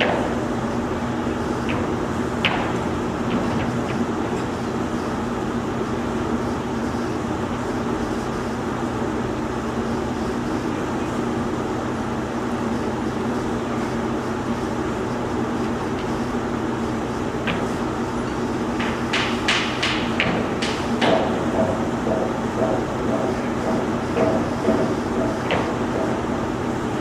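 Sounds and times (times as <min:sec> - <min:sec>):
mechanical drone with low hum: 0:00.0 - 0:27.0.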